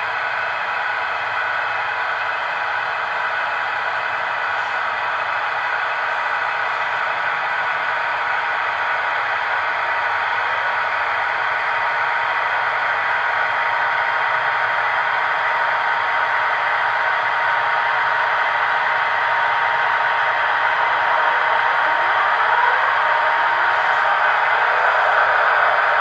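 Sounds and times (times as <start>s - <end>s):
model locomotive whirring hiss: 0.3s - 26.0s.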